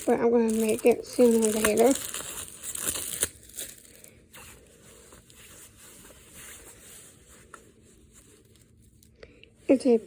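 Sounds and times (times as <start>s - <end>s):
plastic case and packaging rustling: 0.0s - 9.0s.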